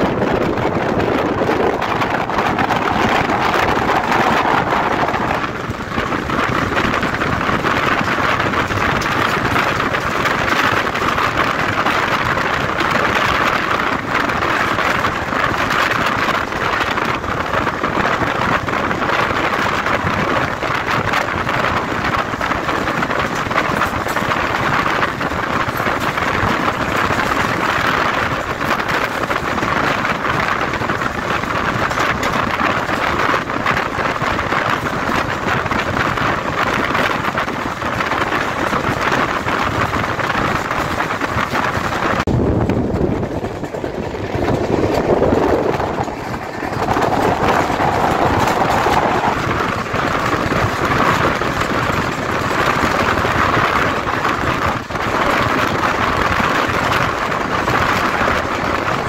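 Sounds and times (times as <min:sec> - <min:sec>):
wheel and rail noise: 0:00.0 - 0:59.0
wind rush on moving train: 0:00.0 - 0:59.0.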